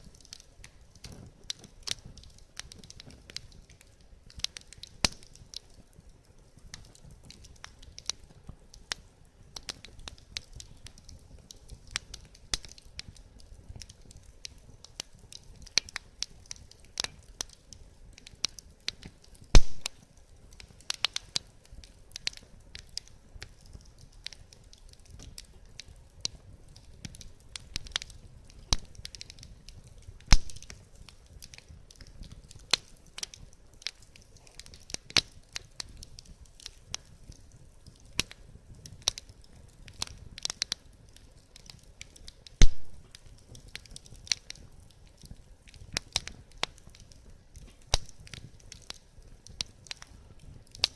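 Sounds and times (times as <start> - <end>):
loud fire pops: 0.0 - 50.9
wood fire crackling: 0.0 - 50.9.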